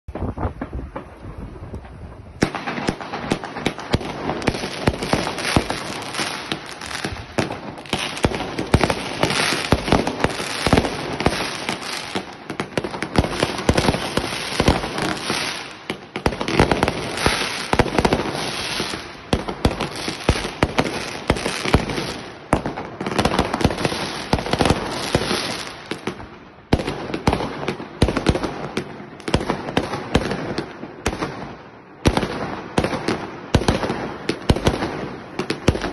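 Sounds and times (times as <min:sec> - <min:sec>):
fireworks launches and crackling bangs: 0:00.1 - 0:35.9.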